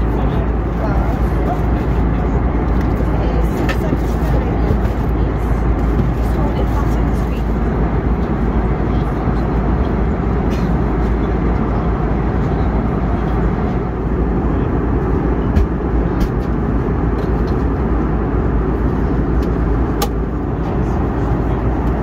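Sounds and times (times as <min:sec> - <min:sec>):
aircraft cabin engine rush: 0:00.0 - 0:22.0.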